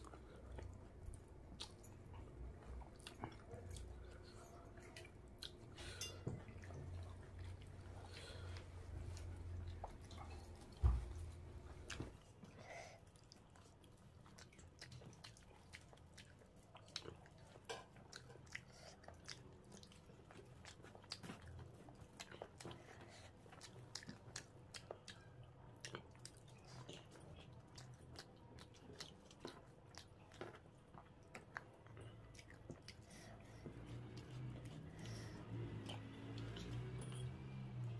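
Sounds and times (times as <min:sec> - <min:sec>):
open-mouthed chewing: 0:00.0 - 0:37.9.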